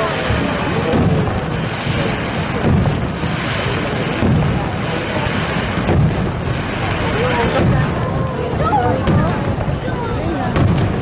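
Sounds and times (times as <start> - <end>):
fireworks booming: 0.0 - 11.0
steady rushing noise: 0.0 - 11.0.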